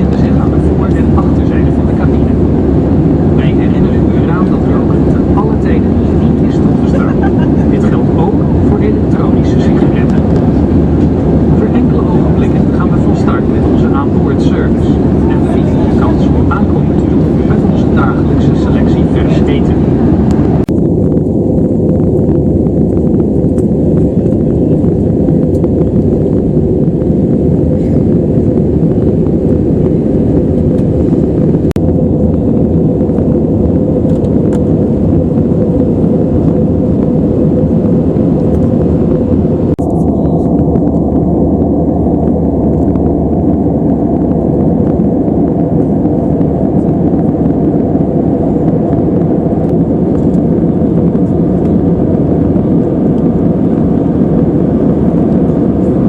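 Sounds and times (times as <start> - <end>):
airplane cabin rumble: 0.0 - 56.0
faint steady hum: 0.0 - 56.0.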